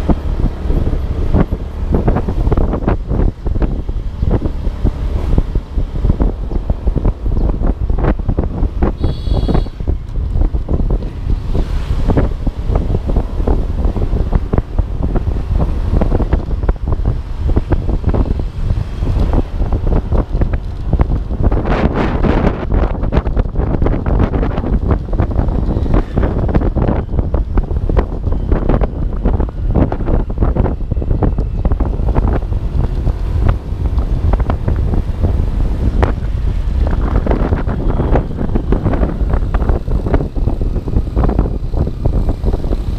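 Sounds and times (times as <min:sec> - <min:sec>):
motorcycle running: 0:00.0 - 0:42.9
wind buffeting microphone: 0:00.0 - 0:42.9.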